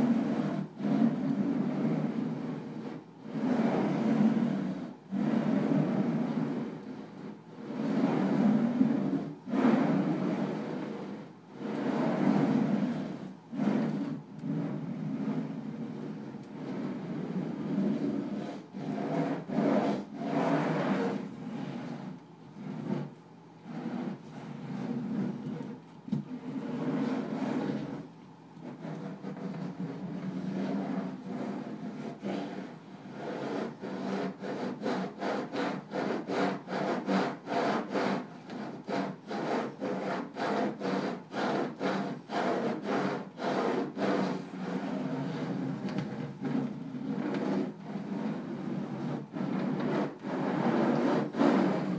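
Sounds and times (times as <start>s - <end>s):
pens scraping across paper: 0.0s - 51.9s.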